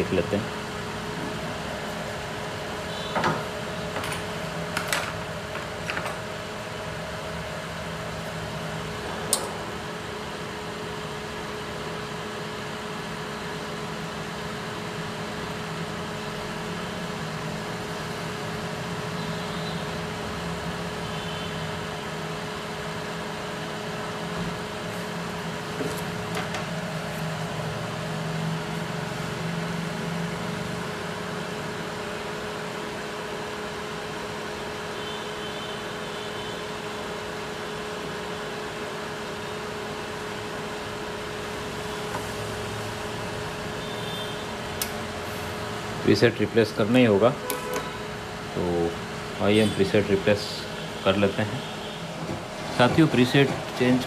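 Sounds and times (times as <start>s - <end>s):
cooling fan whirring: 0.0s - 54.0s.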